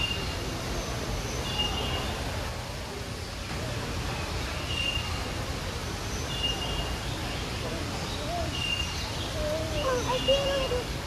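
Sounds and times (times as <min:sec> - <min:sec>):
faint murmur of voices: 0:00.0 - 0:11.0.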